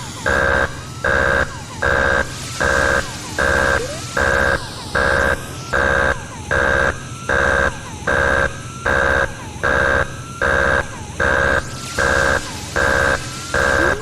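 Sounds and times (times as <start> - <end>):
electronic alarm beeps: 0.0 - 14.0.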